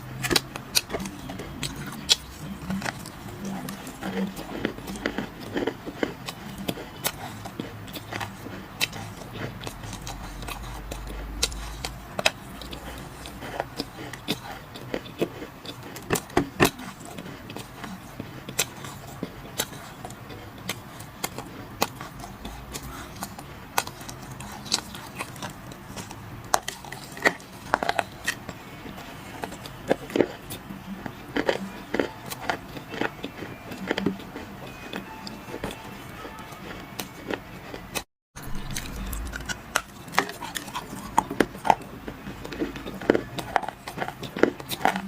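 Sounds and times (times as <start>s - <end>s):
dry clay crunching: 0.0s - 45.0s.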